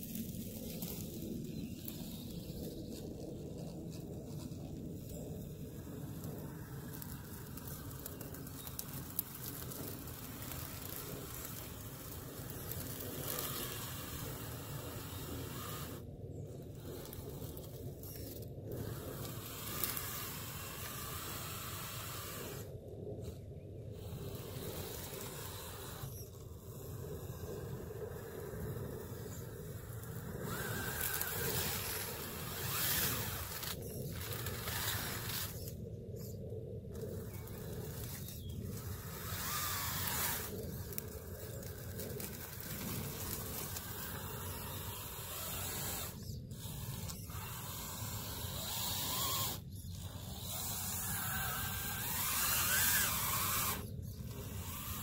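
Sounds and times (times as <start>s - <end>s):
electric motor and gears whining: 0.0s - 55.0s.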